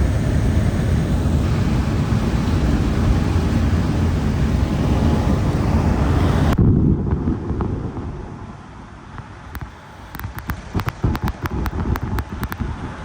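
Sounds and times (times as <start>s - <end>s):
car tyres on wet road: 0.0s - 6.6s, 7.2s - 13.0s.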